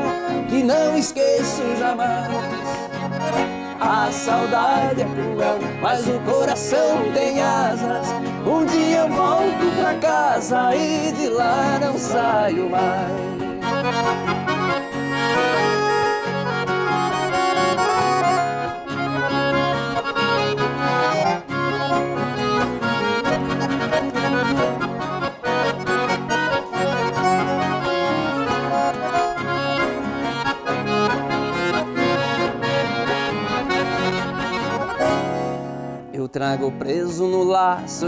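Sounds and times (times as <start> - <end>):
bass and rhythm accompaniment: 0.0 - 36.2
accordion playing: 0.0 - 36.7.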